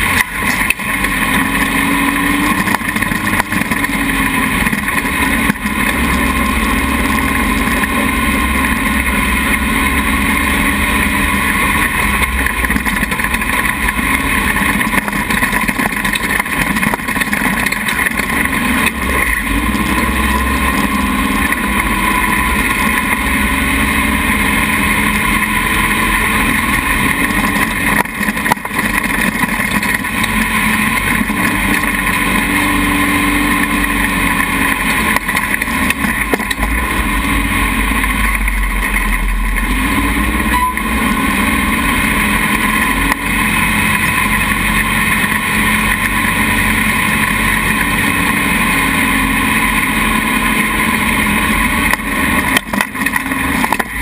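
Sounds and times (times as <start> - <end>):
buggy engine revving on sand: 0.0 - 54.0.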